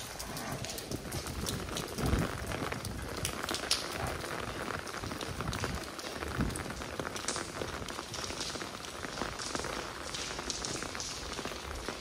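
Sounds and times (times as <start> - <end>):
rain on wet cobbled street: 0.0 - 12.0.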